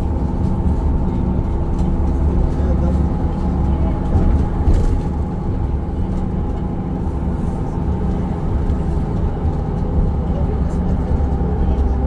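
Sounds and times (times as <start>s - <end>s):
bus engine humming: 0.0s - 12.0s
road noise: 0.0s - 12.0s.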